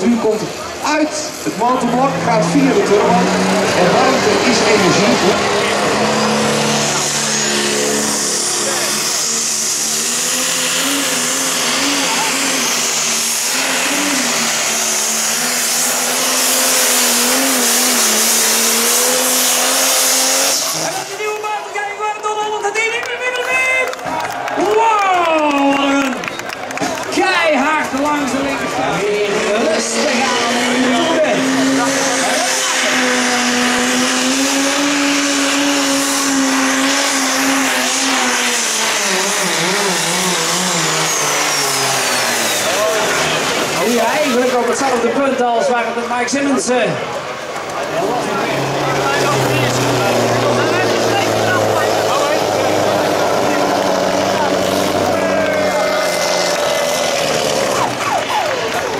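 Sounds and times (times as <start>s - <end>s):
exhaust and turbo hiss: 0.0s - 21.5s, 28.0s - 58.9s
diesel engine at full load: 0.0s - 58.9s.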